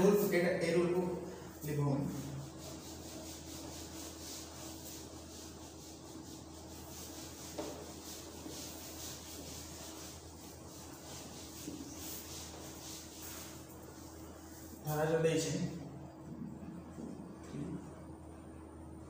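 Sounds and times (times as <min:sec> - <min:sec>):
whiteboard being wiped: 0:00.0 - 0:15.8.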